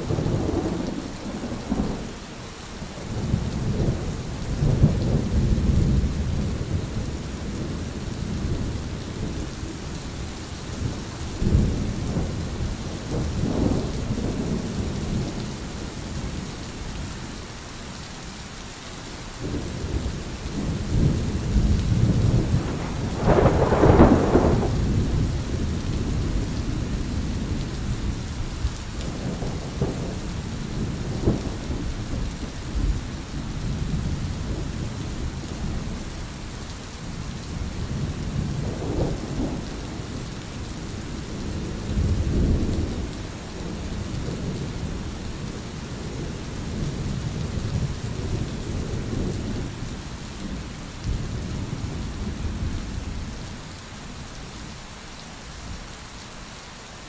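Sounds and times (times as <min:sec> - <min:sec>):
thunder rumbling: 0:00.0 - 0:02.2, 0:03.1 - 0:16.4, 0:19.4 - 0:36.1, 0:37.1 - 0:53.6
steady rain: 0:00.0 - 0:57.0.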